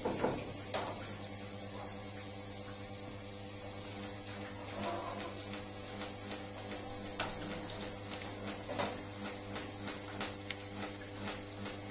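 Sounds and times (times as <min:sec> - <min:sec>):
small machine humming and pulsing: 0:00.0 - 0:11.9.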